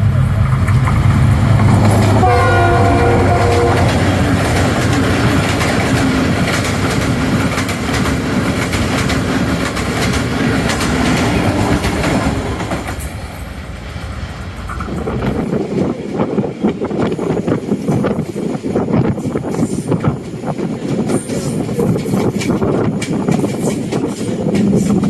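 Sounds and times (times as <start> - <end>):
train wheels clattering: 0.0 - 25.0.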